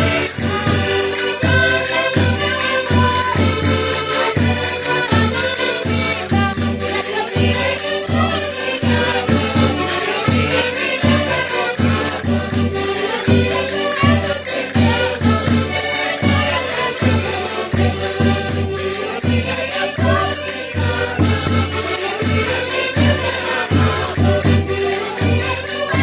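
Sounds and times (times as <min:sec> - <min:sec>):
accordions playing folk tune: 0:00.0 - 0:26.0
voices singing: 0:00.0 - 0:26.0.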